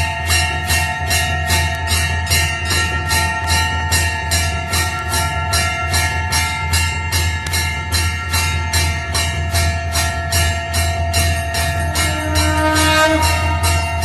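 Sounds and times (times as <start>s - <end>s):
temple bells ringing: 0.0s - 14.0s.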